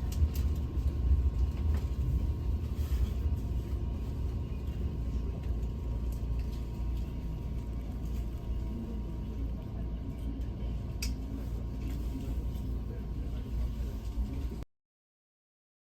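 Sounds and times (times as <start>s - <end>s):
train rumble: 0.0s - 14.6s.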